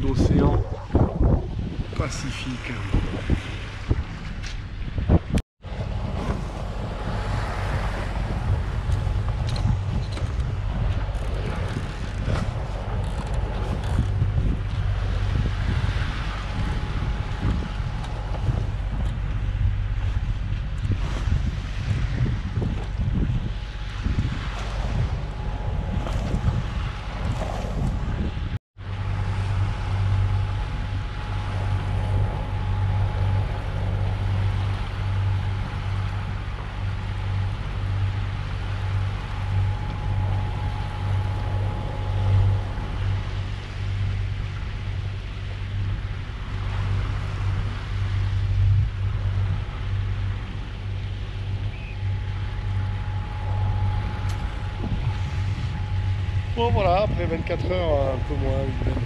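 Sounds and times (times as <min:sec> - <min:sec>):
water noise: 0:00.0 - 0:59.0
wind noise: 0:00.0 - 0:59.0
diesel engine droning: 0:05.6 - 0:59.0.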